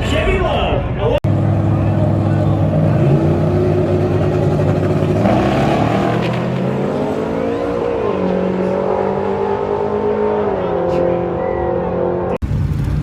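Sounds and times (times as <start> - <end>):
truck engine revving hard: 1.3 - 12.4.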